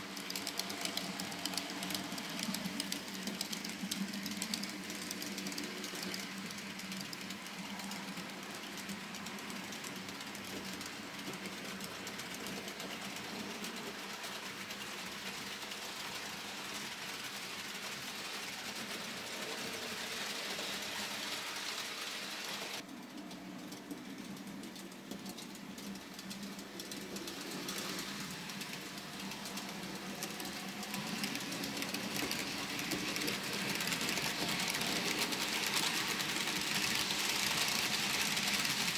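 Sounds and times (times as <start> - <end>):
model train motor whirring: 0.0 - 22.8, 23.9 - 38.9.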